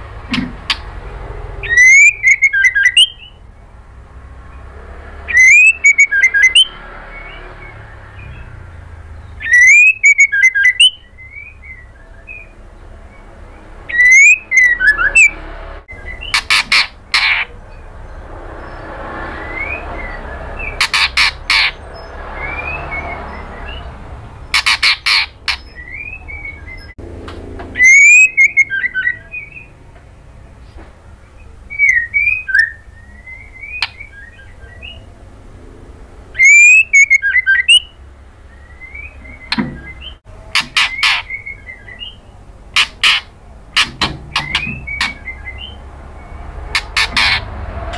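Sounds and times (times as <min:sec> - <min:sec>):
bird calling with whistled notes: 0:01.6 - 0:03.5, 0:04.5 - 0:27.0, 0:27.7 - 0:29.8, 0:30.6 - 0:35.2, 0:36.3 - 0:47.9.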